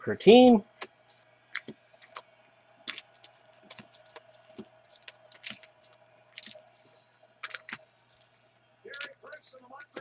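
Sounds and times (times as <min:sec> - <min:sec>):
faint steady hum: 0:00.0 - 0:10.0
wrapper crinkling: 0:01.0 - 0:10.0.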